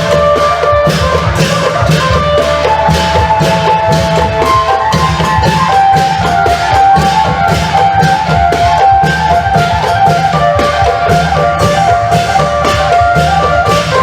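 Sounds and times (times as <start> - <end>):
long drums playing rhythm: 0.0 - 14.0.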